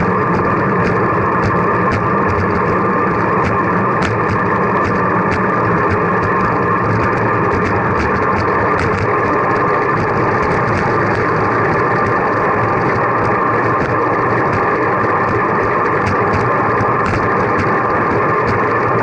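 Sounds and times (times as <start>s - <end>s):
bicycle road noise: 0.0s - 19.0s
faint irregular ticks: 0.0s - 19.0s
rushing wind: 0.0s - 19.0s.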